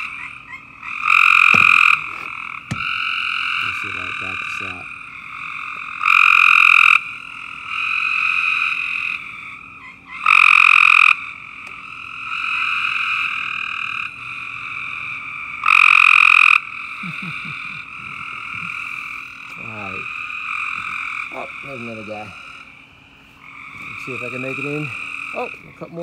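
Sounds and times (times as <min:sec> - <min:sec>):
chorus of treefrogs trilling: 0:00.0 - 0:26.0
close frog trilling loudly: 0:00.0 - 0:26.0.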